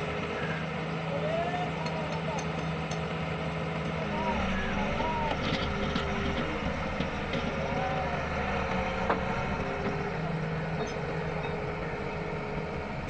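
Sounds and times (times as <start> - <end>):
excavator diesel engine running: 0.0 - 13.0
hydraulics whining: 0.0 - 13.0.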